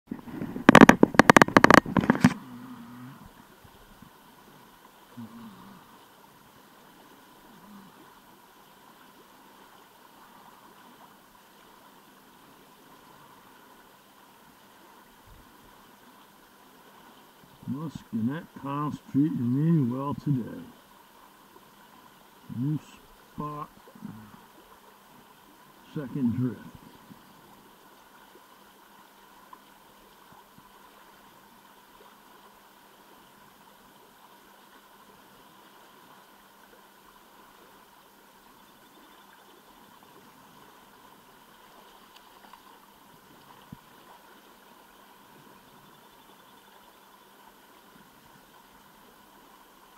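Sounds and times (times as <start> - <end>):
river current flowing: 0.1 - 49.9.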